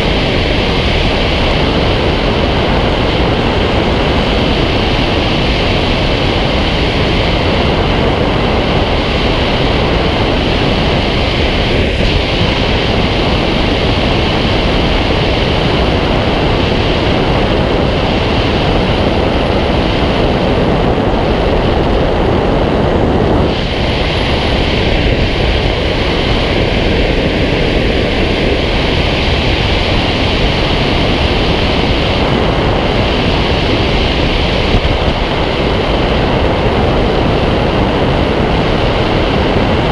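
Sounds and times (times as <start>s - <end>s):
rush of airflow over camera: 0.0s - 39.9s.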